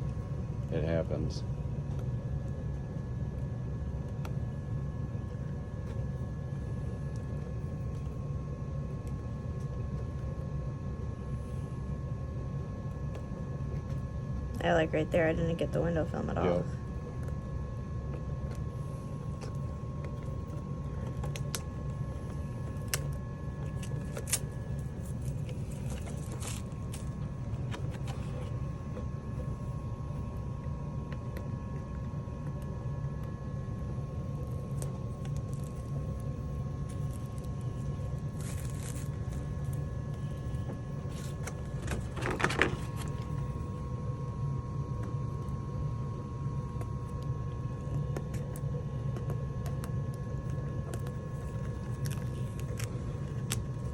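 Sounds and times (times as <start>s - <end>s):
low hum with high whine: 0.0s - 53.9s.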